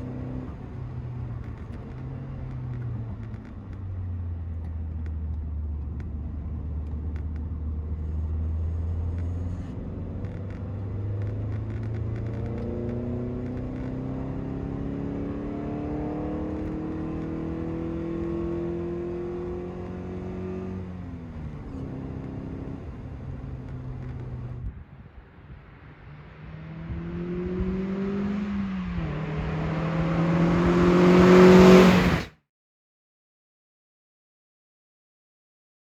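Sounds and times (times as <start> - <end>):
car engine revving: 0.0 - 24.6, 25.5 - 32.3.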